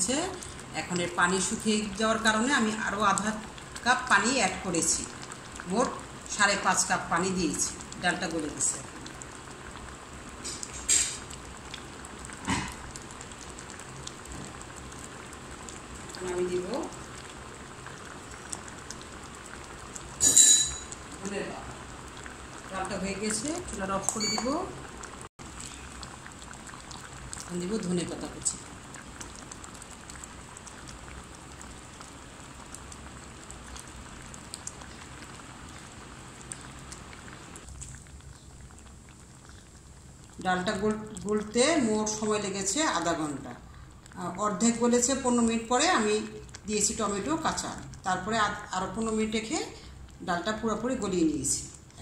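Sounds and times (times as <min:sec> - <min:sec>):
thick stew bubbling and popping: 0:00.0 - 0:52.0.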